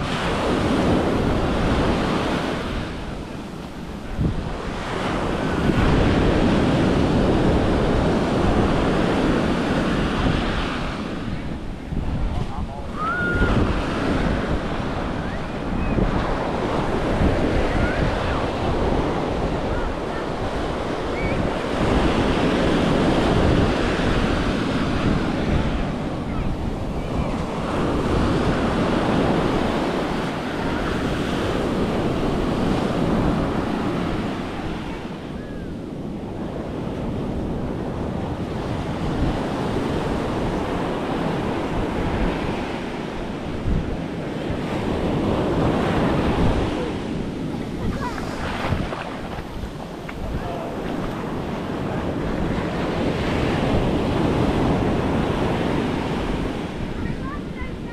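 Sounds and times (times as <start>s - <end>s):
surf breaking on sand: 0.0s - 57.9s
wind buffeting microphone: 0.0s - 57.9s.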